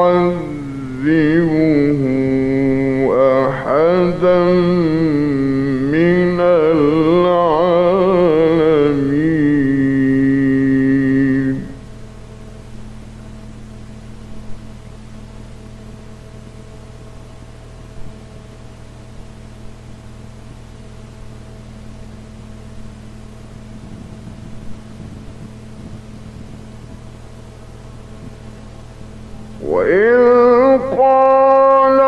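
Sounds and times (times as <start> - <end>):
droning tones: 0.0 - 32.0
recording hum and hiss: 0.0 - 32.0.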